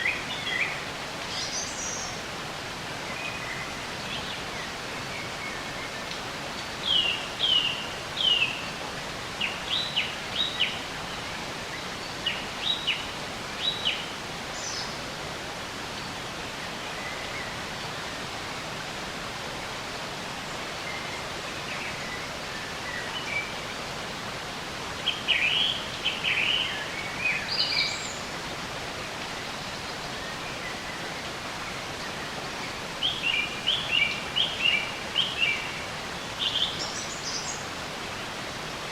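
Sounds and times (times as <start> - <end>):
flowing water: 0.0 - 38.9
songbirds chirping: 0.0 - 38.9.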